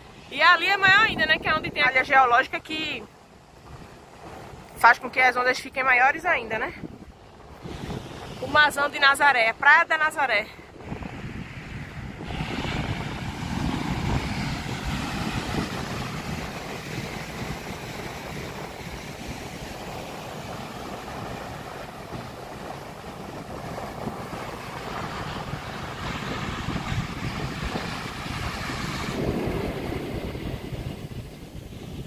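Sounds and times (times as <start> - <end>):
surf breaking on a beach: 0.0 - 32.0
wind buffeting the microphone: 0.0 - 32.0.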